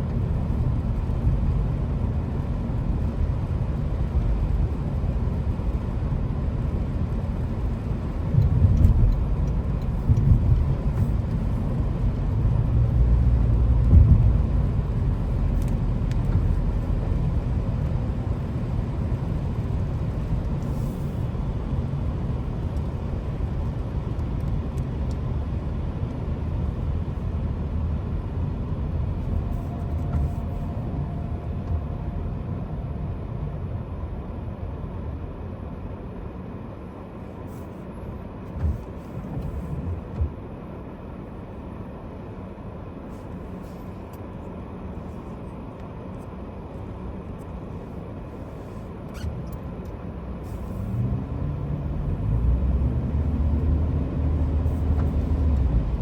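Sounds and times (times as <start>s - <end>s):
low rumble of road traffic: 0.0s - 56.0s.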